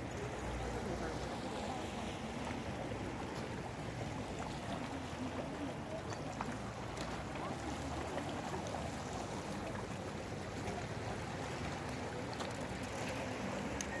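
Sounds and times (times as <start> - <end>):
sea water lapping on rocks: 0.0 - 14.0.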